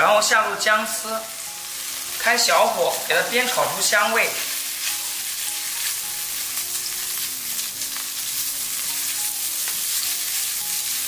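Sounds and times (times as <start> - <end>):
ginger sizzling in oil: 0.0 - 11.0.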